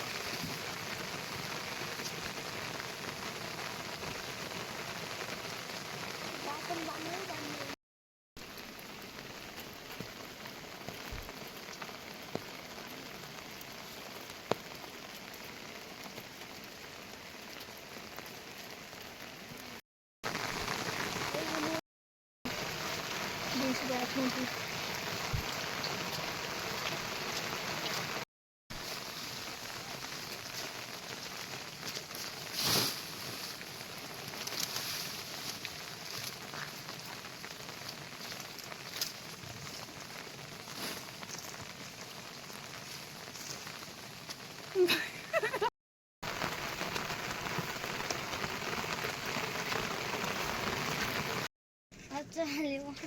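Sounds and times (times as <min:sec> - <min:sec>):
heavy rain hissing: 0:00.0 - 0:07.8, 0:08.4 - 0:21.8, 0:22.5 - 0:45.7, 0:46.3 - 0:51.5.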